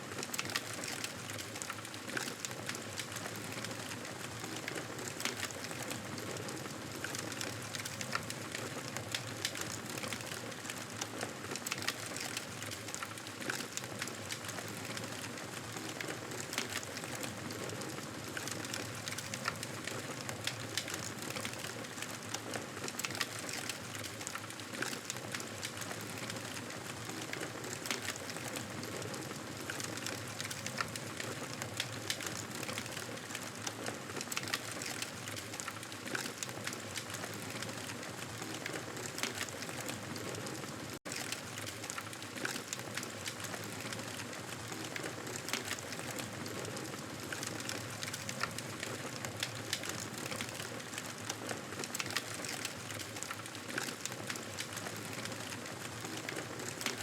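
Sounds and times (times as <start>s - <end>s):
fire crackles and pops: 0.0s - 57.0s.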